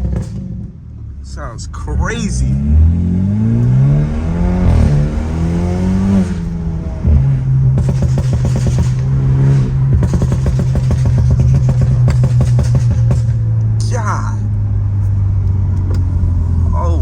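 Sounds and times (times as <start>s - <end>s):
car engine revving: 0.0s - 17.0s
exhaust crackles and pops: 0.0s - 17.0s.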